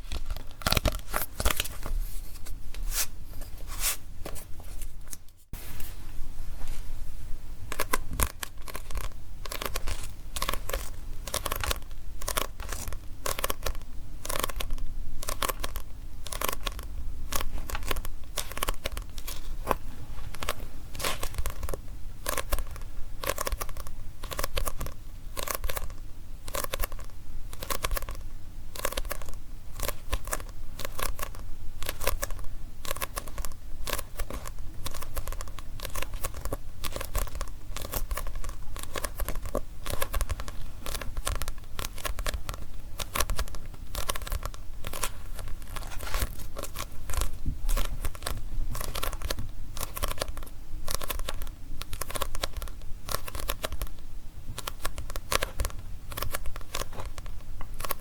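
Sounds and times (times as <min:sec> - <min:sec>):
papery crackle: 0:00.0 - 0:04.0, 0:07.7 - 0:58.0
fingers tapping on book pages: 0:07.7 - 0:28.2, 0:28.8 - 0:58.0.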